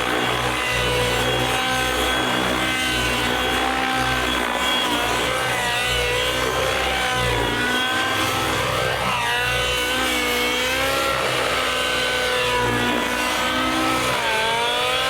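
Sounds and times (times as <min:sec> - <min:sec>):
model aircraft engine: 0:00.0 - 0:15.0.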